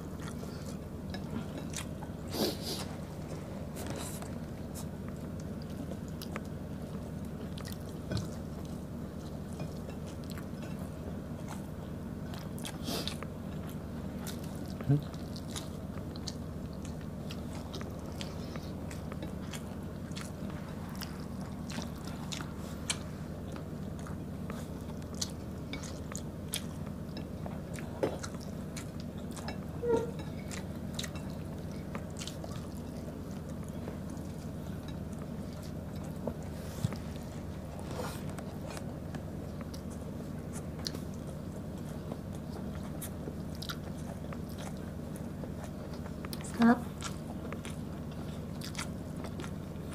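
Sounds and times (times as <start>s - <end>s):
steady low hum: 0.0s - 49.9s
wet chewing: 3.8s - 10.8s, 11.4s - 49.9s.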